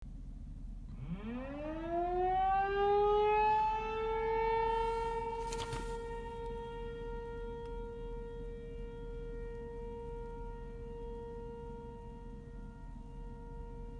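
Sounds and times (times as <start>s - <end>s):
tornado warning siren wailing: 0.9s - 13.9s.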